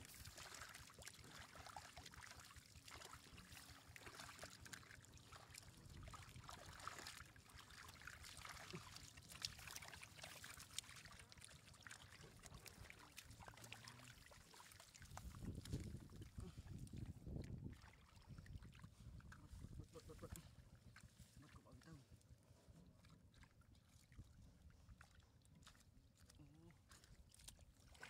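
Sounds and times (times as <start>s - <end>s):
muddy water sloshing and trickling: 0.0s - 28.0s
small splashes and drips: 0.0s - 28.0s.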